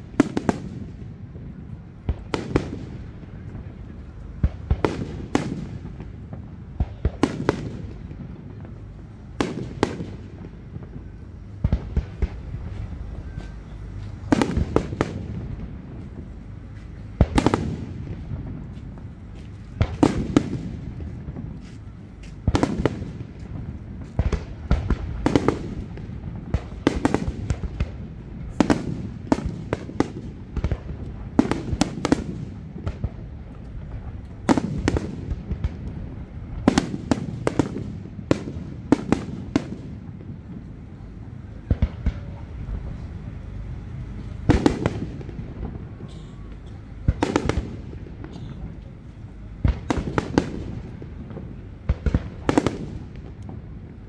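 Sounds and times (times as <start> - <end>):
continuous low rumble: 0.0 - 54.0
fireworks bursting: 0.0 - 54.0.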